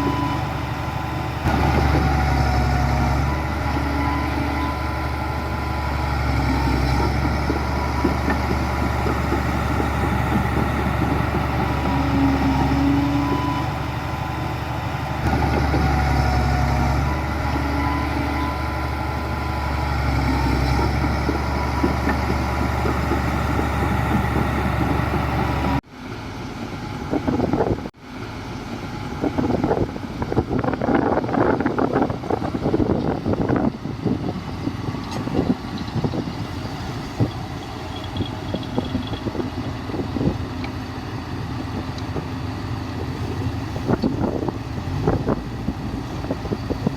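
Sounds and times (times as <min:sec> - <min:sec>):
heavy diesel machinery running: 0:00.0 - 0:46.9.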